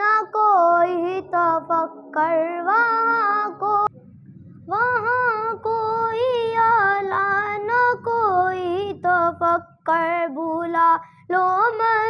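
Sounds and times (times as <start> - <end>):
girl singing: 0.0 - 3.9, 4.7 - 12.0.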